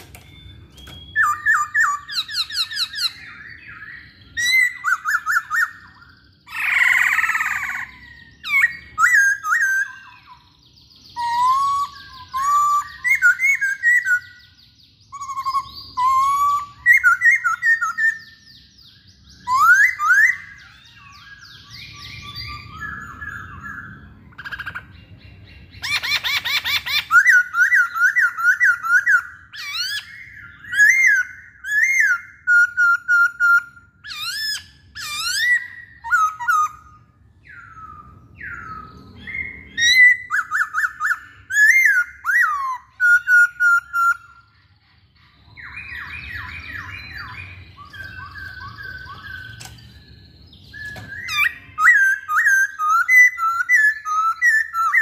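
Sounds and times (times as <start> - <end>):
bird singing whistled song: 0.0 - 55.0.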